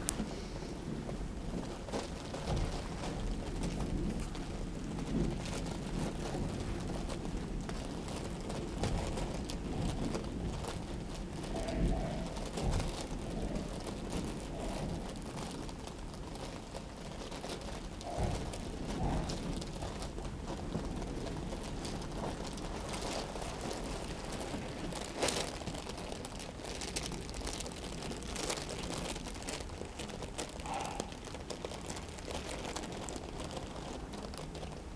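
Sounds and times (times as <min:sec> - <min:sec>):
fabric rustling and crinkling: 0:00.0 - 0:34.9
small crackles: 0:00.0 - 0:34.9.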